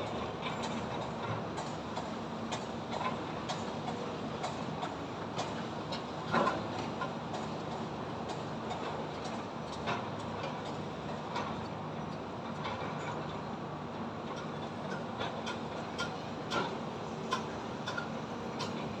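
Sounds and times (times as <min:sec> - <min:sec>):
machinery and traffic hum: 0:00.0 - 0:19.0.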